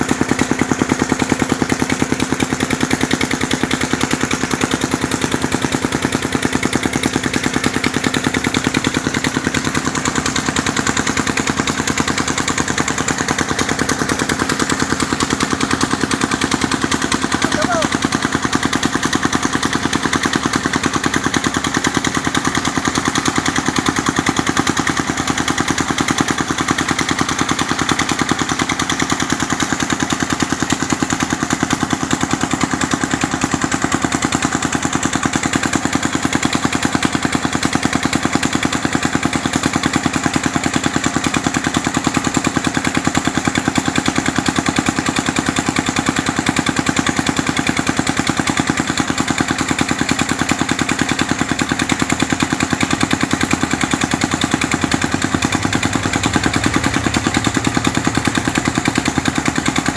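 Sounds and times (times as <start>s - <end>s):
small engine thumping: 0.0s - 59.9s.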